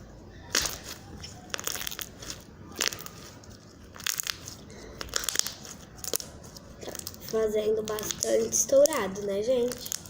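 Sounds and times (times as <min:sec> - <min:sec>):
slime popping and crackling: 0:00.4 - 0:10.0.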